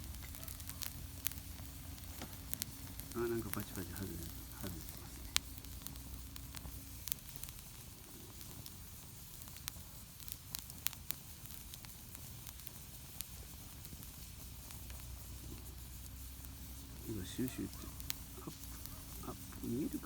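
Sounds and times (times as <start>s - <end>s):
campfire crackling and popping: 0.0s - 20.0s
steam hissing from firewood: 0.0s - 20.0s.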